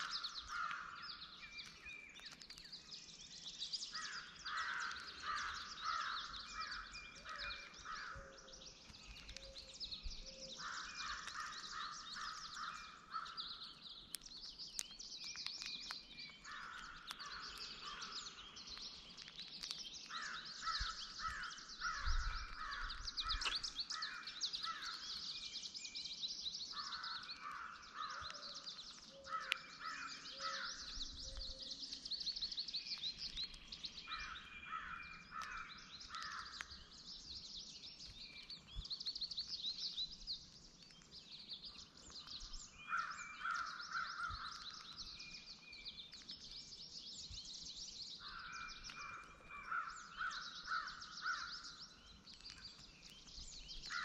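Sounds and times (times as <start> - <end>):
rapid high songbird chirping: 0.0 - 54.0.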